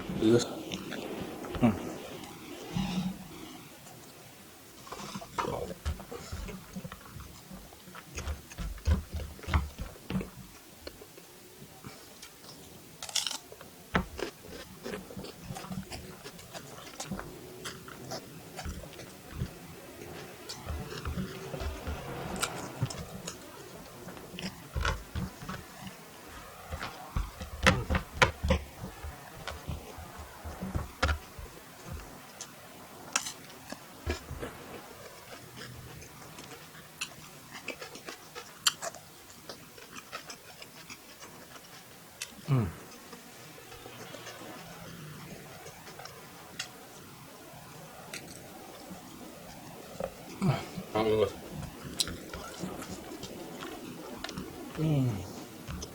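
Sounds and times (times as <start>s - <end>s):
person chewing food: 0.6s - 55.9s.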